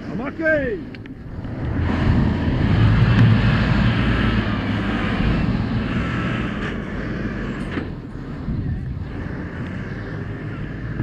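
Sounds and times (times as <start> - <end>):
pump engine droning: 0.0 - 11.0.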